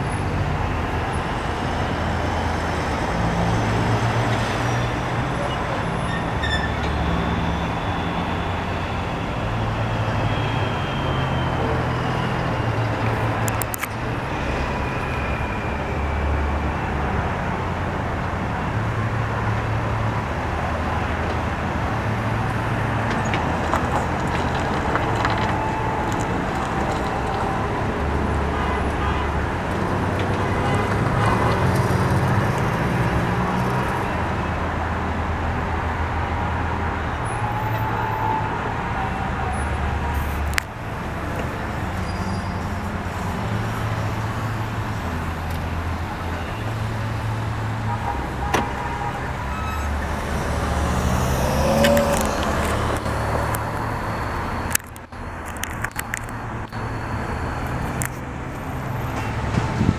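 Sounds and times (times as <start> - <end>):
cars and trucks driving past: 0.0 - 59.9.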